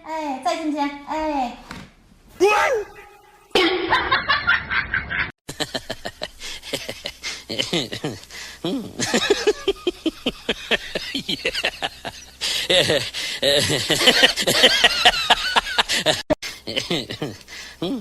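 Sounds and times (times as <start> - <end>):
person giggling: 2.4 - 18.0.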